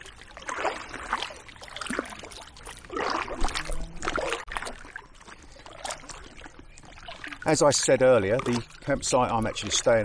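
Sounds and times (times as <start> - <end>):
paddle splashing in water: 0.0 - 10.0.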